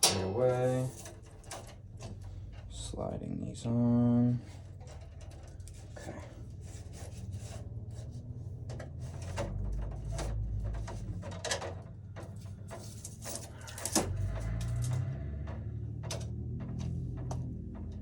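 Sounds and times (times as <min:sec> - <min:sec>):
low steady hum: 0:00.0 - 0:18.0
wires and parts clicking and scraping: 0:00.0 - 0:18.0.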